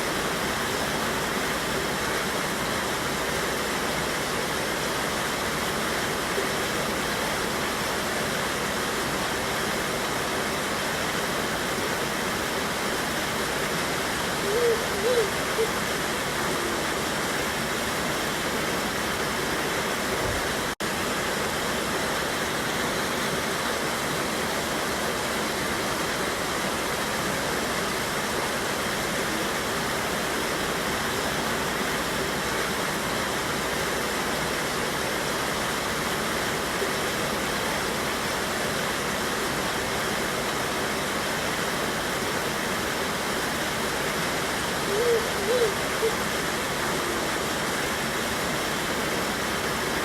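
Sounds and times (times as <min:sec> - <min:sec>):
river over small waterfall: 0:00.0 - 0:50.0.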